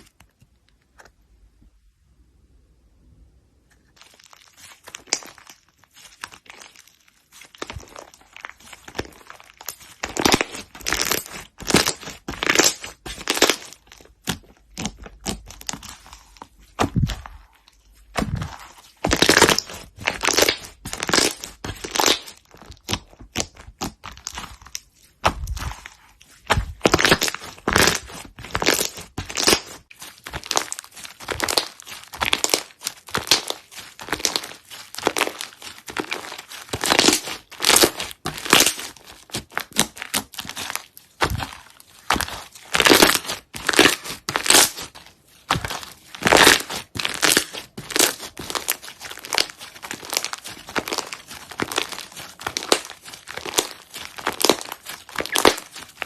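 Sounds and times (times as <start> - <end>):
hands squishing slime: 3.9 - 56.0.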